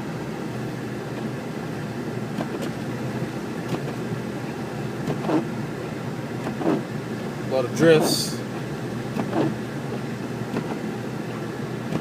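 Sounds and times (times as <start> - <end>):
road and engine noise in car: 0.0 - 12.0.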